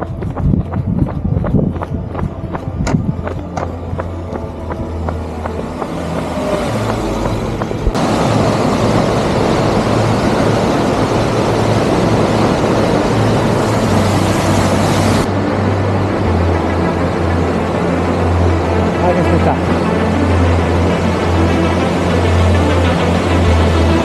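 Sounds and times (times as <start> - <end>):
background music with bass: 0.0 - 24.0
waterfall rushing: 4.2 - 24.0.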